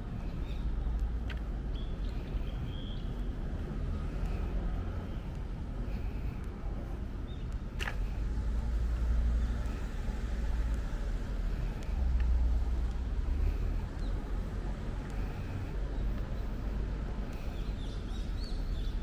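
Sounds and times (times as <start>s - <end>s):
low street rumble: 0.0s - 19.0s.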